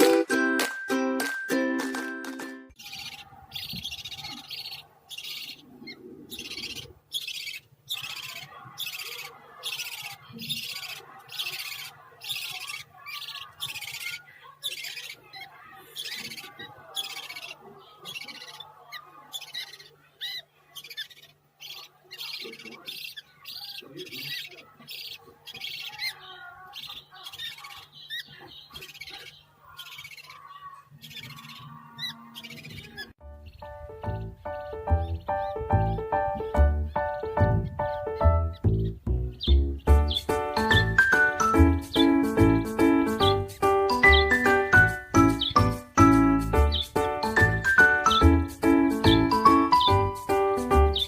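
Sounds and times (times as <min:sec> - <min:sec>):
parakeet chick begging calls: 0:02.8 - 0:51.0.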